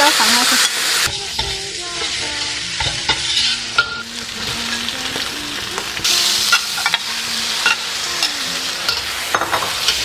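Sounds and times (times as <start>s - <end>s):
chillies sizzling in hot oil: 0.0s - 10.0s.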